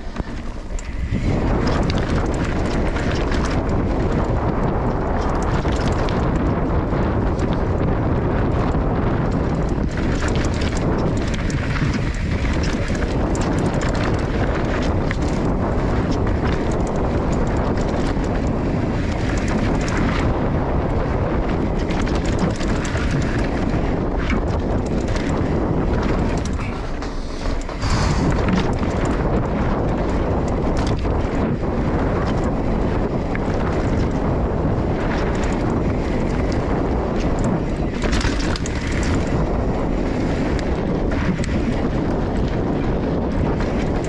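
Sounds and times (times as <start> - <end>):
bike rattling and knocking: 0.0 - 44.0
tyres on loose dirt and gravel: 0.0 - 44.0
wind buffeting microphone: 0.0 - 44.0.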